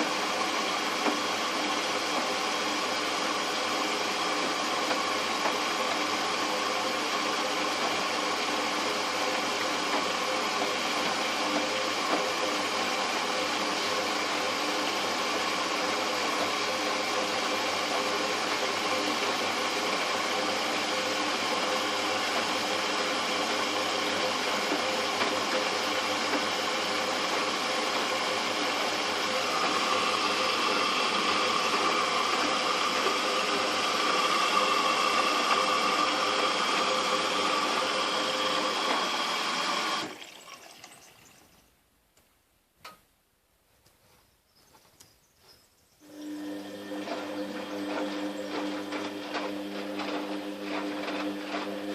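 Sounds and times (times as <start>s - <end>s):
washing machine running: 0.0s - 40.9s, 46.0s - 51.9s.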